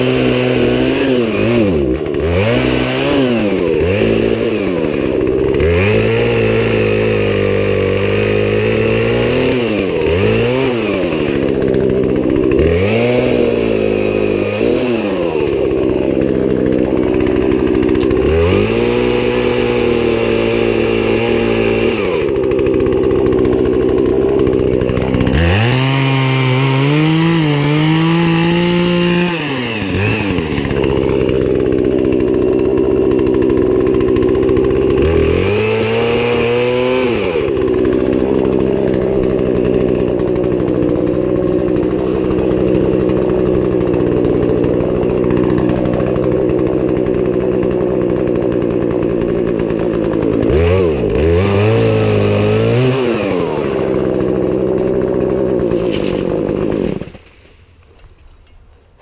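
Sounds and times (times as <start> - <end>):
chainsaw running and revving: 0.0 - 57.6.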